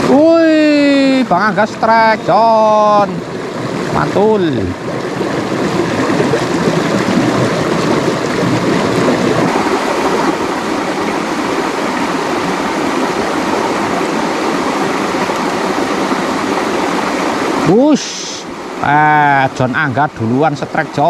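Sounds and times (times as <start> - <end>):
stream rushing over stones: 0.0 - 21.0.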